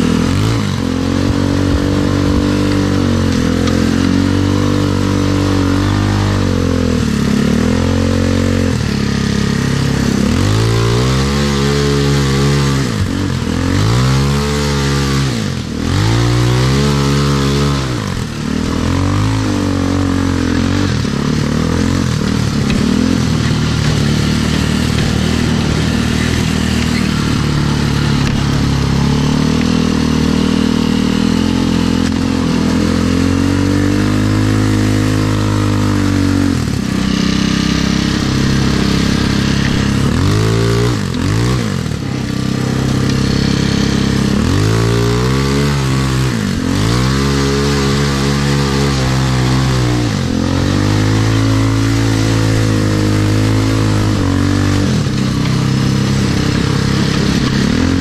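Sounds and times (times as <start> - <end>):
buggy engine revving: 0.0 - 58.0
steady noisy rush: 0.0 - 58.0.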